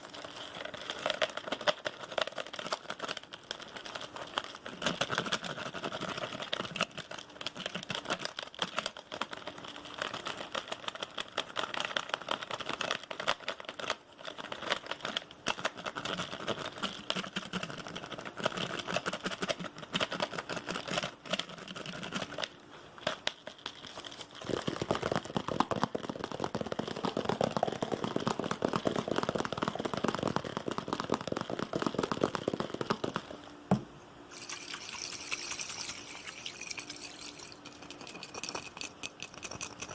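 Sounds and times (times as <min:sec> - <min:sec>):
quick tapping and scratching: 0:00.0 - 0:33.8, 0:34.4 - 0:39.9.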